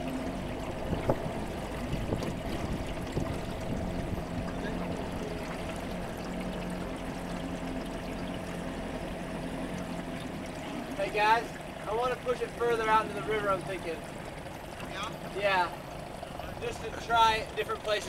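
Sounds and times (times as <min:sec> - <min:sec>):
low steady hum: 0:00.0 - 0:18.0
river water rushing and splashing: 0:00.0 - 0:18.0.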